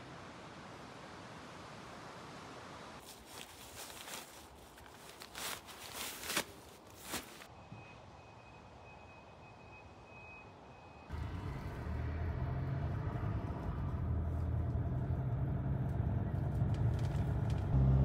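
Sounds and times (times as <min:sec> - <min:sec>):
car engine and road noise: 0:01.8 - 0:18.0.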